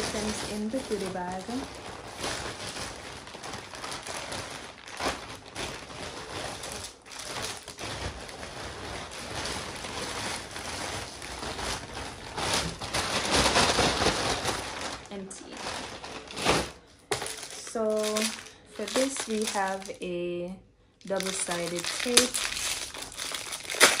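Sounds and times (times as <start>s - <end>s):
plastic bags crinkling and rustling: 0.0s - 20.2s, 21.0s - 24.0s.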